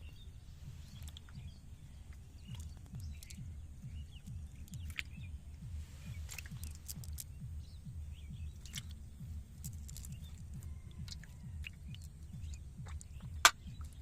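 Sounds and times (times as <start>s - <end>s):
birds chirping: 0.0s - 14.0s
low steady pulsing: 0.0s - 14.0s.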